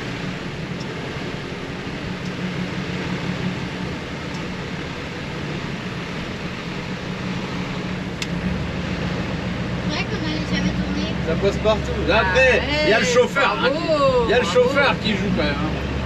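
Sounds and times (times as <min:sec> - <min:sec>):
road noise: 0:00.0 - 0:16.0
truck engine running: 0:00.0 - 0:16.0.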